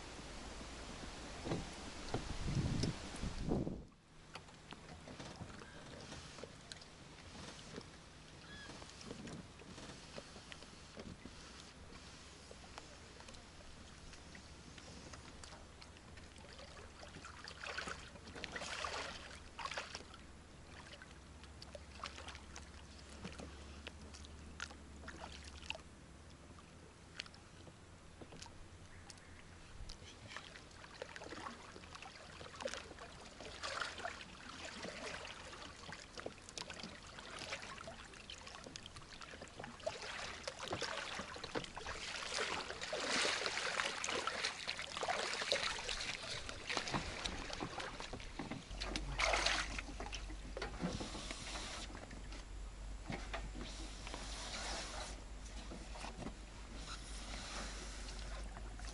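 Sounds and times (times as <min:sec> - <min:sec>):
shallow water sloshing and splashing: 0:00.0 - 0:58.9.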